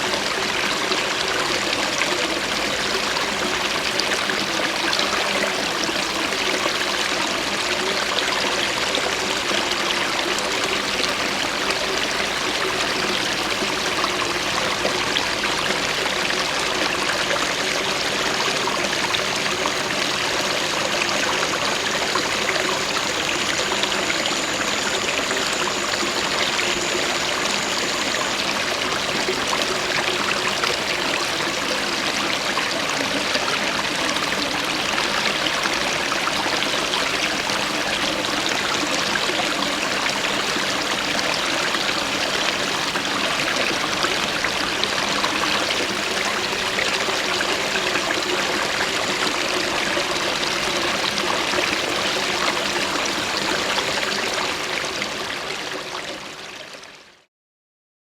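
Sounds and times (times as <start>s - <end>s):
stream water flowing: 0.0s - 57.3s.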